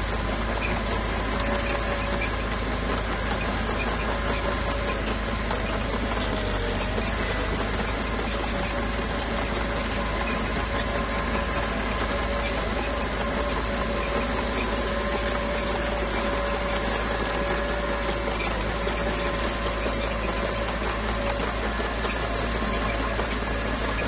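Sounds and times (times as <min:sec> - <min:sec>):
bulldozer engine running: 0:00.0 - 0:24.0
whining tone: 0:00.6 - 0:24.0.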